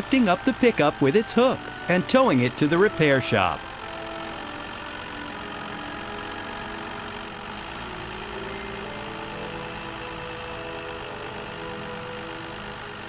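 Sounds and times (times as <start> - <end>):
cartoon truck engine: 0.0 - 13.0.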